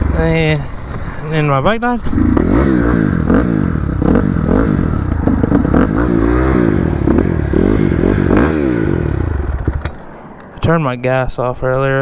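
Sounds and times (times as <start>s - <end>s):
dirt bike engine revving: 0.0s - 10.5s.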